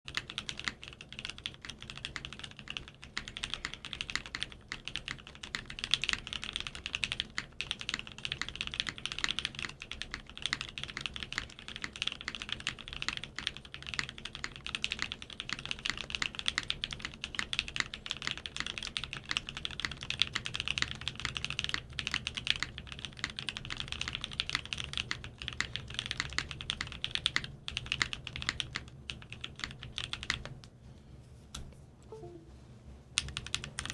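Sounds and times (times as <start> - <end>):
fast typing on mechanical keyboard: 0.1 - 30.6, 33.2 - 33.9.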